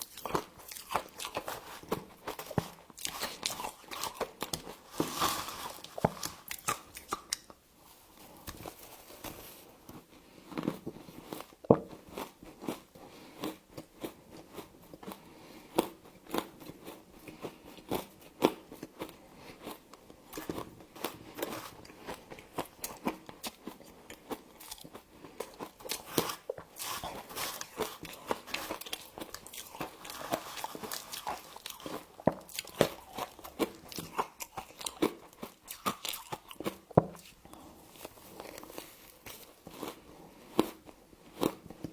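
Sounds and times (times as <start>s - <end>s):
chewing: 0.0s - 7.6s, 8.2s - 41.9s.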